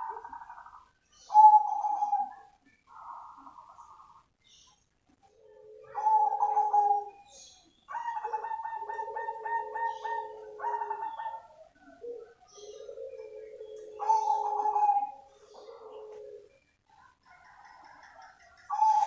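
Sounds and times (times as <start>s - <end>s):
dove cooing song: 0.0s - 4.3s, 5.1s - 19.0s.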